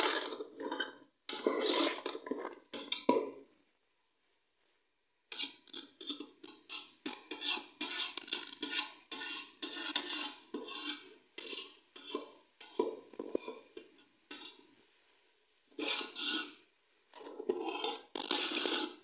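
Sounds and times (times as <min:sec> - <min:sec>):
ladle scraping metal pot: 0:00.0 - 0:03.4, 0:05.3 - 0:14.8, 0:15.7 - 0:19.0.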